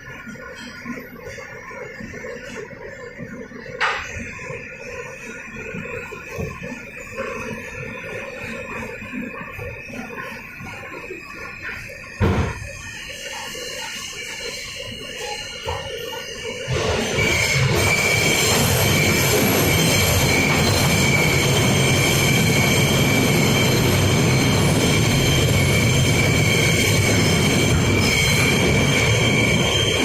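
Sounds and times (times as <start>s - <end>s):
subway train wheel squeal: 0.0s - 30.0s
train rumbling: 0.0s - 30.0s.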